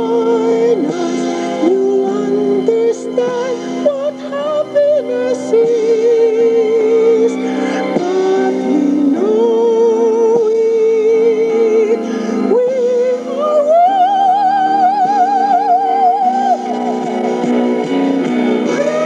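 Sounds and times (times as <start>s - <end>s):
woman singing with vibrato: 0.0s - 17.0s
musical accompaniment: 0.0s - 19.0s.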